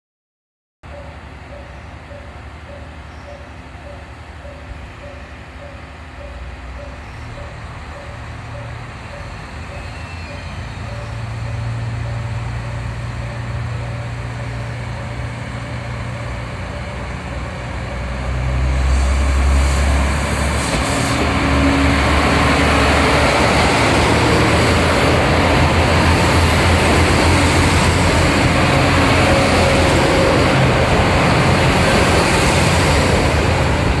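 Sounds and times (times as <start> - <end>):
diesel railcar engine rumble: 0.8 - 34.0
train wheels rumbling: 1.3 - 34.0.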